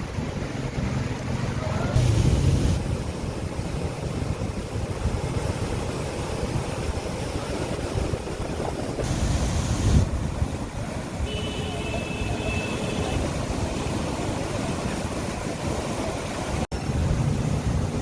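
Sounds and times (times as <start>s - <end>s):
rushing floodwater: 0.0s - 18.0s.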